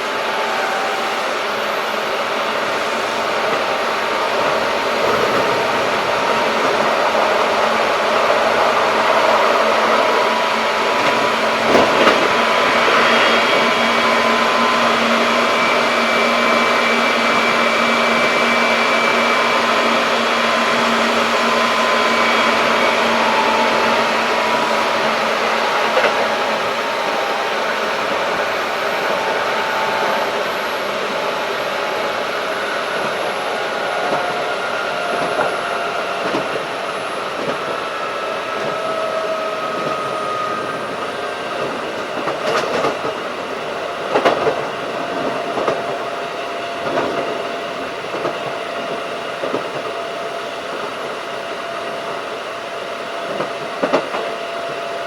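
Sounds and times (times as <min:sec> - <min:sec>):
electric train running: 0:00.0 - 0:55.0.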